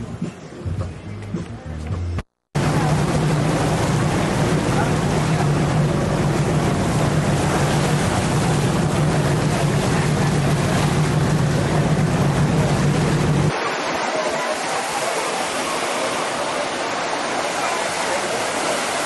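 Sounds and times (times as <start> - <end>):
ship machinery humming: 2.6 - 19.0
wind and water rushing: 2.6 - 19.0.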